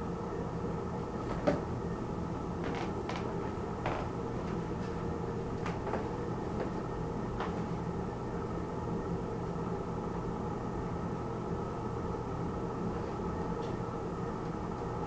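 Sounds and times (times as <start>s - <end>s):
film projector hum: 0.0s - 15.0s.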